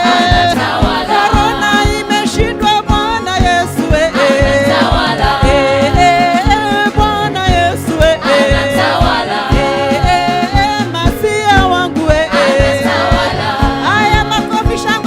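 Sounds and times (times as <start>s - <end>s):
band with drum beat: 0.0s - 15.0s
group of singers: 0.0s - 15.0s.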